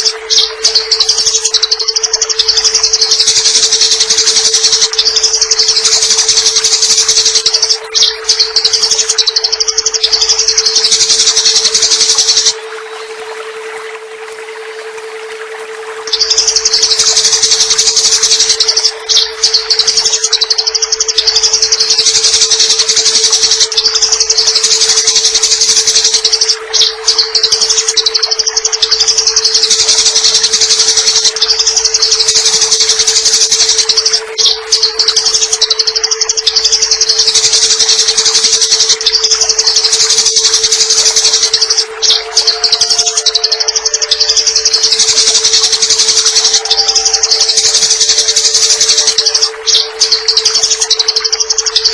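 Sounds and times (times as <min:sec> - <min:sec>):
sparrows chattering: 0:00.0 - 0:12.6, 0:16.1 - 0:51.9
steady low hum: 0:00.0 - 0:51.9.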